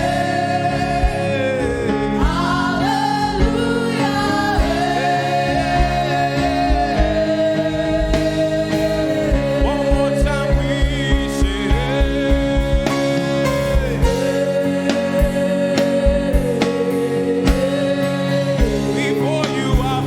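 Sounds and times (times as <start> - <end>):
band sustained chords: 0.0 - 20.0
drum beat: 0.0 - 20.0
voices singing: 0.0 - 20.0.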